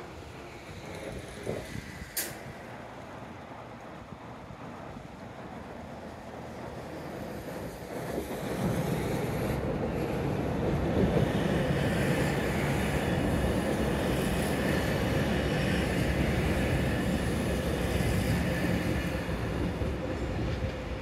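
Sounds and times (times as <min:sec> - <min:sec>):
diesel railcars passing: 0:00.0 - 0:21.0.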